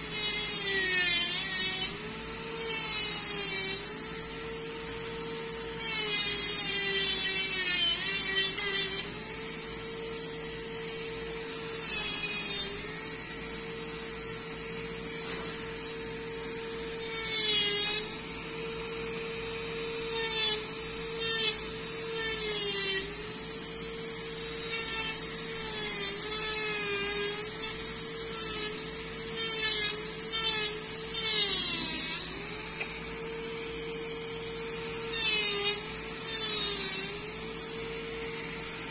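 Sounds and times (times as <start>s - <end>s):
micromotor handpiece whine: 0.0s - 38.9s.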